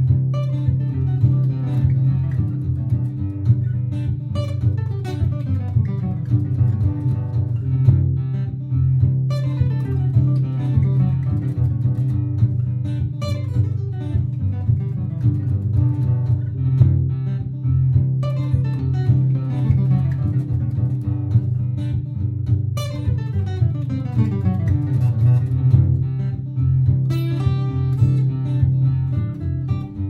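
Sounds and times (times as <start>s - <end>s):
looped acoustic guitar chords: 0.0s - 30.0s
plucked guitar lines: 0.0s - 30.0s
strummed guitar chords: 0.0s - 30.0s.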